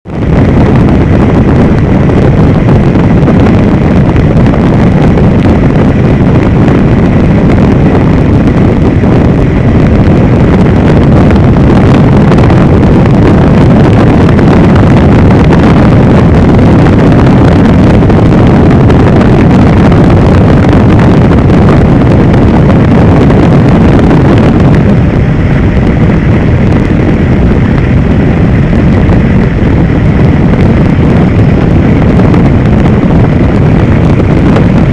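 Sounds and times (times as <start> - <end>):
faint whine: 0.0 - 34.9
helicopter engine and rotor rumble: 0.0 - 34.9
wind buffeting microphone: 0.0 - 34.9.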